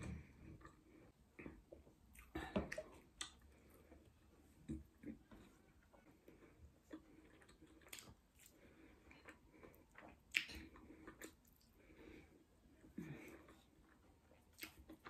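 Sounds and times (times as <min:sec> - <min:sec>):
person chewing: 0:00.4 - 0:15.0.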